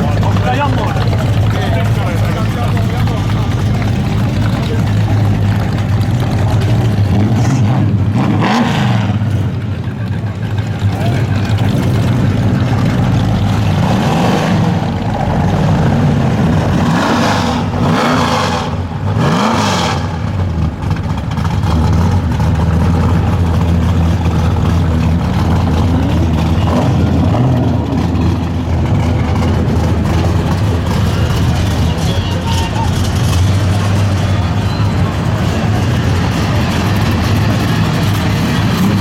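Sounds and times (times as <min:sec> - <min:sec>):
car engines rumbling: 0:00.0 - 0:39.0
engine revving: 0:00.0 - 0:39.0.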